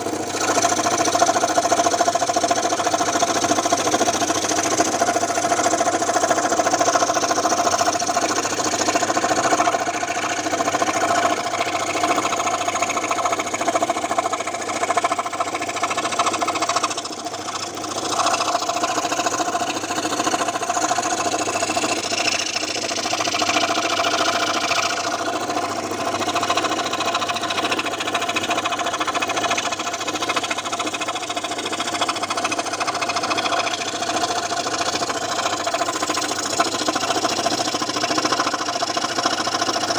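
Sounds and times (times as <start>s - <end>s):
scroll saw running: 0.0s - 39.9s.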